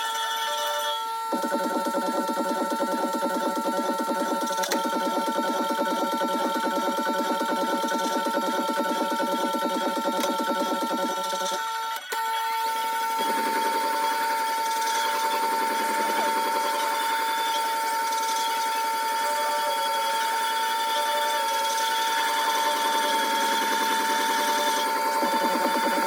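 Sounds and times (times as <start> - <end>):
sharpening grinder whining: 0.0 - 26.0.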